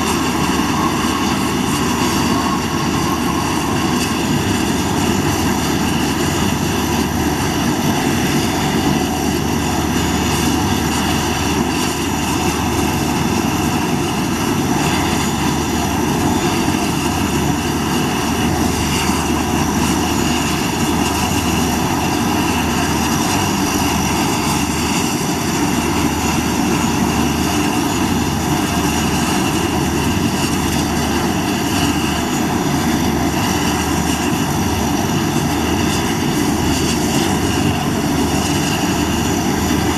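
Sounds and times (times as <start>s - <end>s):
low propeller drone: 0.0s - 39.9s
turboprop engine whine: 0.0s - 39.9s.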